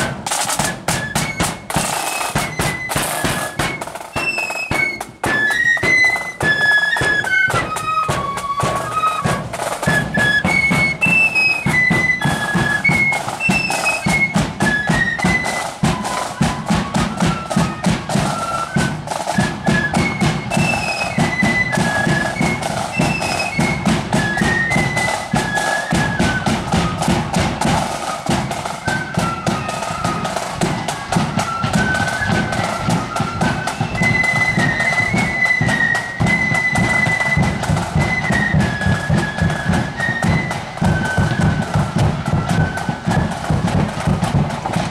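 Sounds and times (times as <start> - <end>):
high flute melody: 0.0 - 44.9
rapid drumbeat: 0.0 - 44.9.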